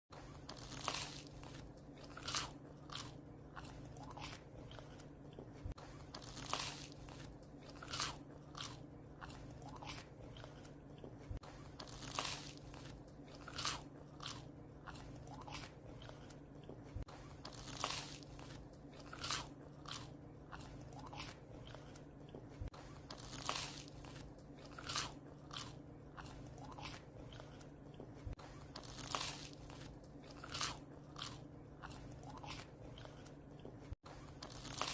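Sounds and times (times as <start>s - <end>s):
puppy crunching bread: 0.2s - 34.9s.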